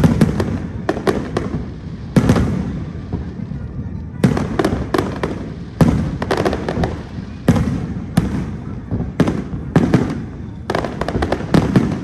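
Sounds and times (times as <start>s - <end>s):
fireworks bangs with rumble: 0.0s - 12.0s.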